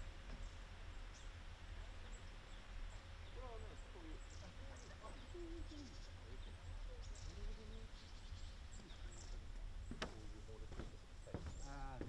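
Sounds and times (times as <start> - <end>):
low steady rumble: 0.0 - 12.0
small birds chirping: 0.0 - 12.0
faint distant voices: 0.6 - 12.0.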